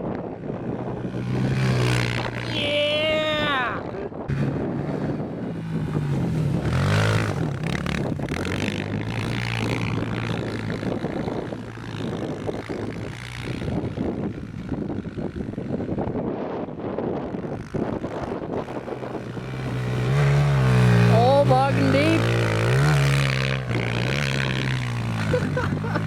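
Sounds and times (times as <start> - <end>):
small off-road vehicle engine: 0.0 - 26.0.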